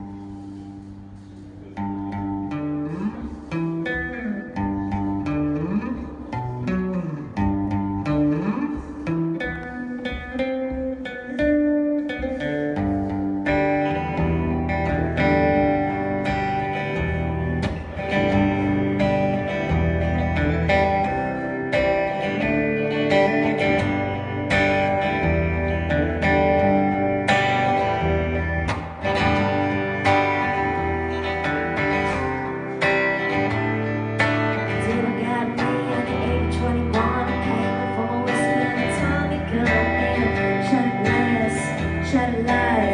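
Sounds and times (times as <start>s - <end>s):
bass guitar: 0.0s - 42.9s
guitar: 0.0s - 42.9s
live band instrumental: 0.0s - 42.9s.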